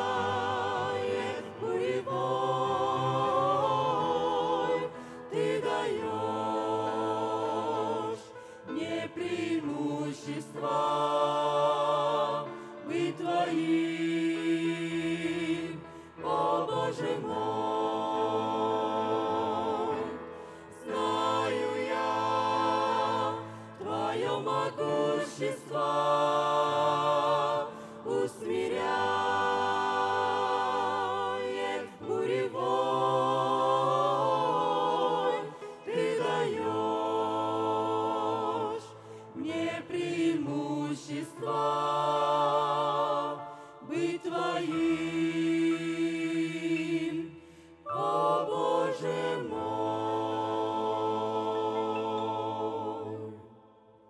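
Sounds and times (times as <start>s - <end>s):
group singing a hymn: 0.0s - 54.0s.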